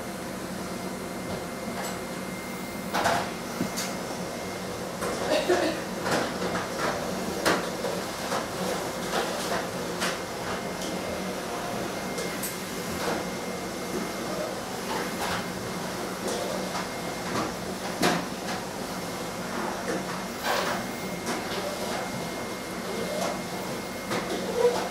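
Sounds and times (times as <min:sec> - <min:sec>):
steady background hum: 0:00.0 - 0:24.9.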